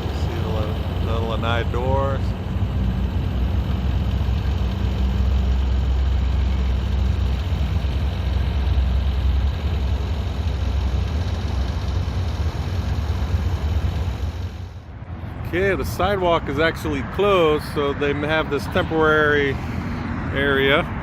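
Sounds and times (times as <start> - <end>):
engine rumble: 0.0 - 21.0
low hum: 0.0 - 21.0.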